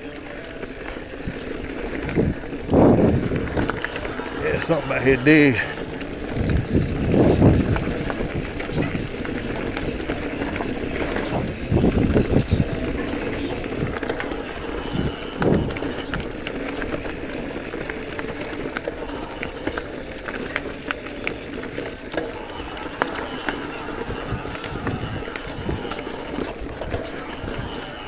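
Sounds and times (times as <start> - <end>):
bike bumps: 0.0 - 27.8
bike rattling clicks: 0.0 - 28.0
bike tyres on dirt trail: 0.0 - 28.0.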